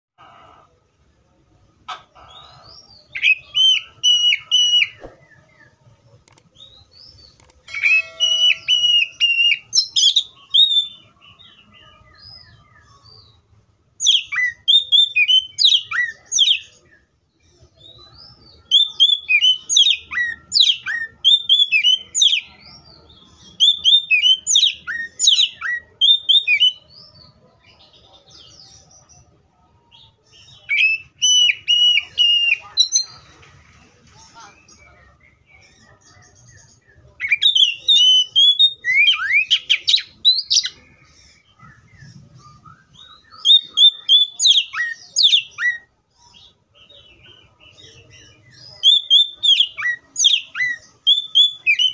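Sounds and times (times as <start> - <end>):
bird singing whistled notes: 2.7 - 13.4, 14.0 - 27.2, 29.9 - 33.2, 34.6 - 51.9.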